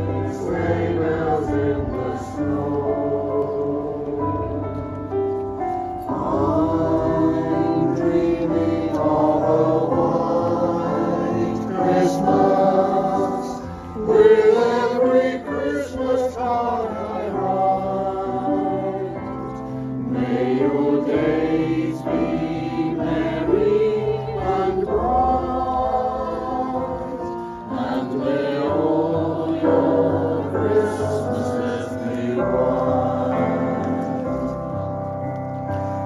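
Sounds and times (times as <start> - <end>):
mixed choir singing in harmony: 0.0 - 5.0, 6.0 - 35.0.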